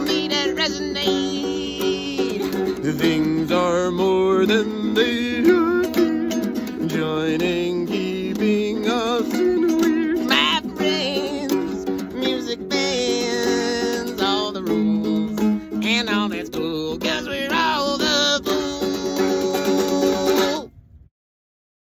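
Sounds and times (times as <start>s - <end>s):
man singing with vibrato: 0.0s - 20.8s
strummed acoustic guitar: 0.0s - 20.8s.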